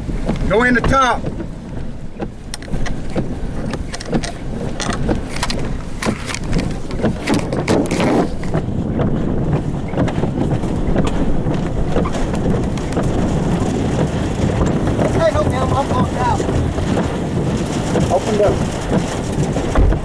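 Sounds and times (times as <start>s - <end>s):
road and wind rumble in car: 0.0s - 20.0s
sharp taps and knocks: 0.1s - 20.0s.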